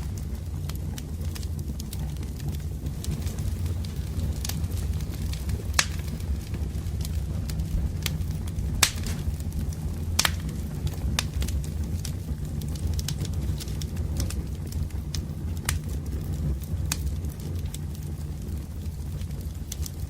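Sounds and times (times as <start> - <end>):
burning logs popping: 0.0 - 20.0
low rumble of flames: 0.0 - 20.0
wood fire crackling: 0.0 - 20.0.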